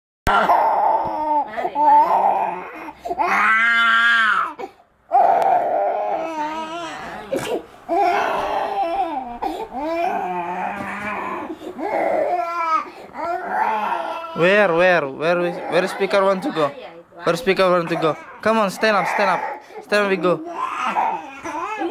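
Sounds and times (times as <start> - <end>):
toddler crying: 0.3 - 14.6, 17.7 - 21.9.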